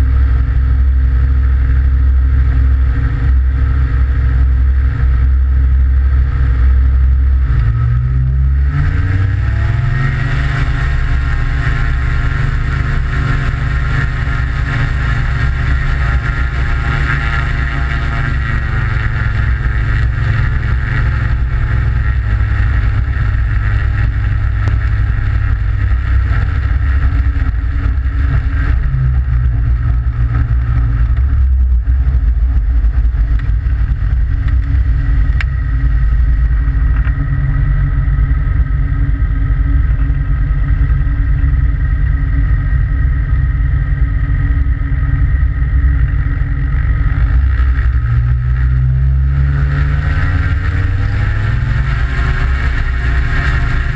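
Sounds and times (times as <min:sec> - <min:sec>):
aircraft engine and propeller running: 0:00.0 - 0:53.9
water rushing along hull: 0:00.0 - 0:53.9.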